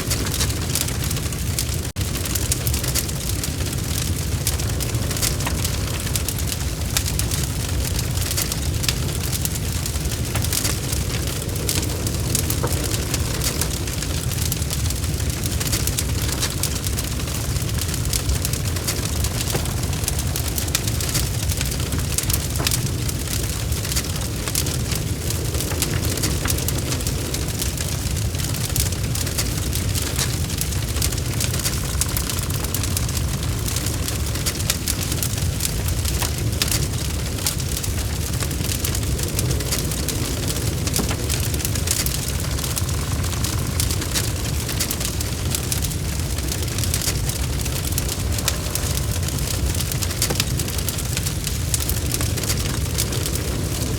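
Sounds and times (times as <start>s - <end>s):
logs burning in a fireplace: 0.0s - 53.9s.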